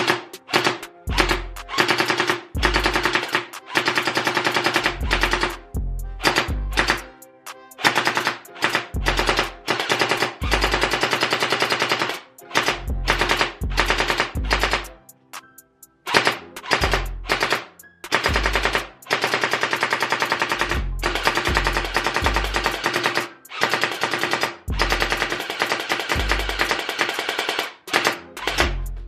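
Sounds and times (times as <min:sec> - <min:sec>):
gel blaster firing bursts: 0:00.0 - 0:05.6, 0:06.2 - 0:07.1, 0:07.8 - 0:14.9, 0:16.1 - 0:28.8.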